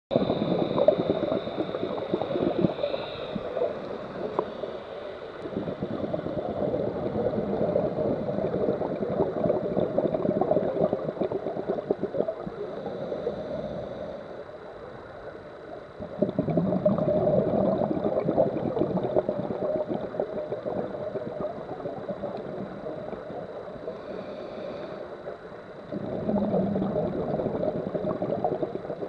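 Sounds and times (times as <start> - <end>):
regulator bubbles gurgling underwater: 0.1 - 14.1, 15.0 - 29.0.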